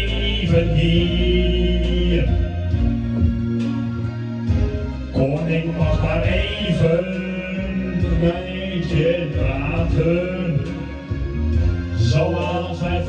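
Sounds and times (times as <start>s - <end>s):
man singing into microphone: 0.0s - 3.3s, 5.1s - 13.0s
instrumental accompaniment: 0.0s - 13.0s.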